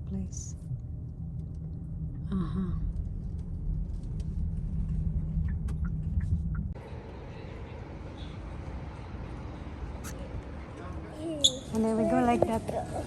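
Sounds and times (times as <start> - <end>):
car road rumble: 0.0 - 10.8.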